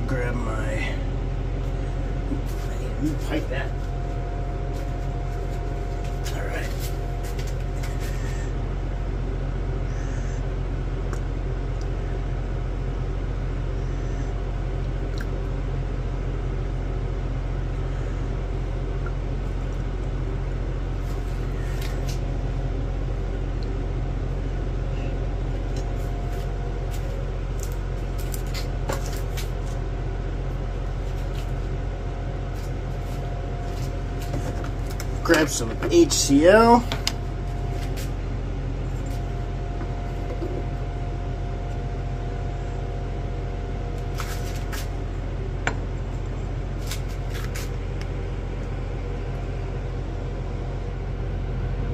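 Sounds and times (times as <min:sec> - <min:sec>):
low machine hum: 0:00.0 - 0:51.9.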